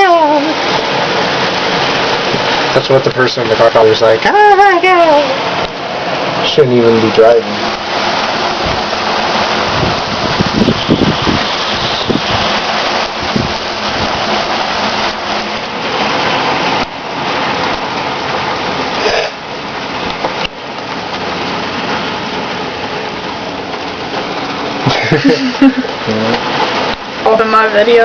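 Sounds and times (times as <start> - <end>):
heavy rain hissing: 0.0 - 28.0
low rumbling wind gusts: 0.0 - 28.0.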